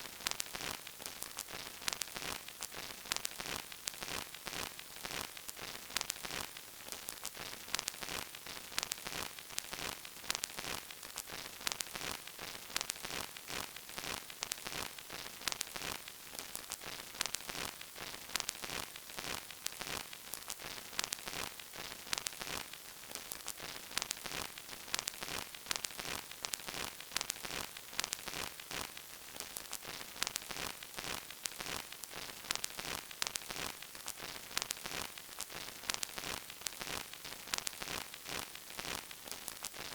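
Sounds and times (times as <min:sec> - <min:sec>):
vinyl record hiss and crackle: 0:00.0 - 0:39.9.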